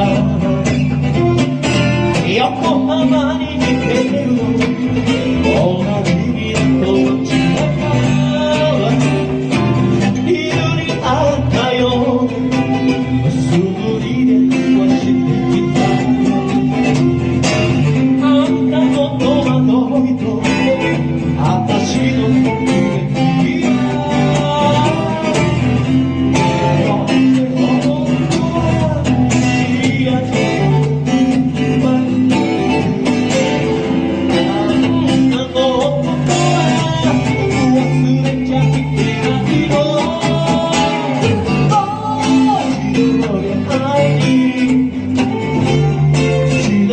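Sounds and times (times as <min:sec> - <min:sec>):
band playing live: 0:00.0 - 0:46.9
bass guitar: 0:00.0 - 0:46.9
electric guitar: 0:00.0 - 0:46.9.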